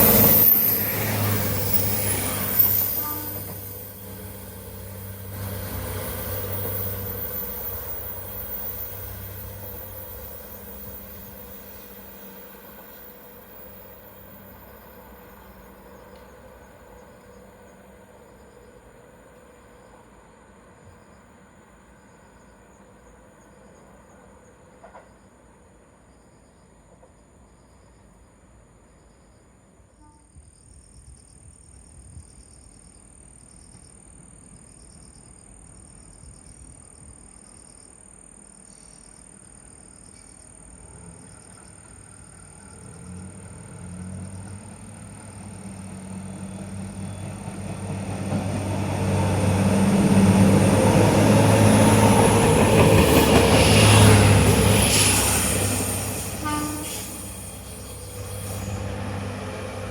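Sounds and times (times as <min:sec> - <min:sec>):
insects chirping: 0:00.0 - 0:59.9
railcar passing: 0:00.0 - 0:59.9.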